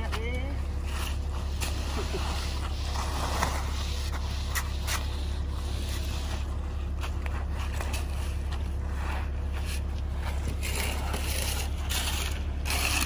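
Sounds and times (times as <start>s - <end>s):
low rumble: 0.0s - 13.0s
rake scraping wet concrete: 0.0s - 13.0s.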